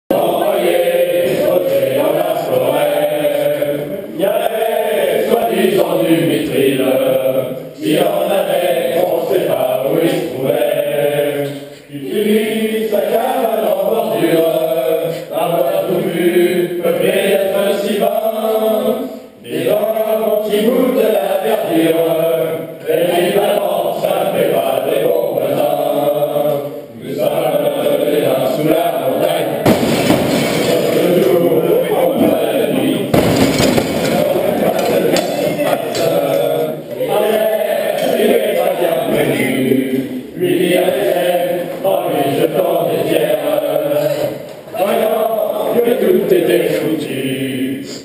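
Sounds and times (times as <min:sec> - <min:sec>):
voices chanting in unison: 0:00.0 - 0:48.0.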